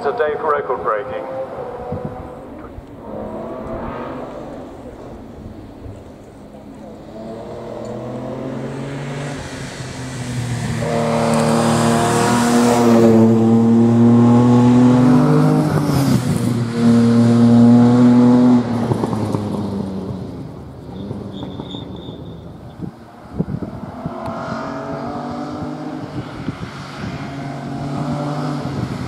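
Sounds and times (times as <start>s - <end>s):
racing car accelerating: 0.0s - 29.0s.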